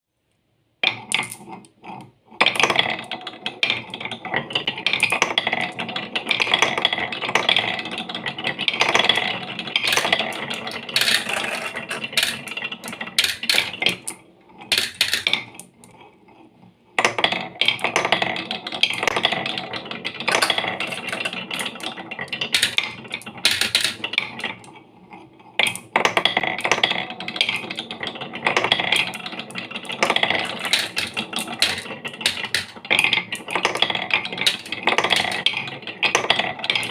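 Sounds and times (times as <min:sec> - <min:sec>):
marbles rolling and clattering: 0:00.8 - 0:36.9.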